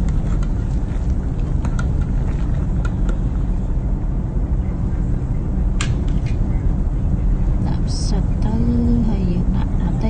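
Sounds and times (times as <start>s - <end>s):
gas burner rumbling: 0.0s - 10.0s.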